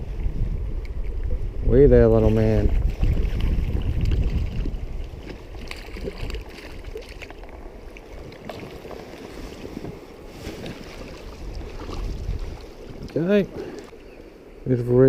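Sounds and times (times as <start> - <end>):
wind rumbling on microphone: 0.0 - 15.0
stream flowing: 2.5 - 15.0.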